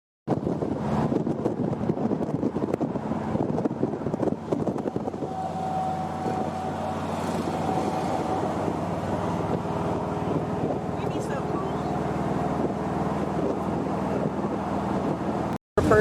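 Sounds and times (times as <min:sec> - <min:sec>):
car engine running: 0:00.3 - 0:16.0
wind on microphone: 0:00.3 - 0:16.0.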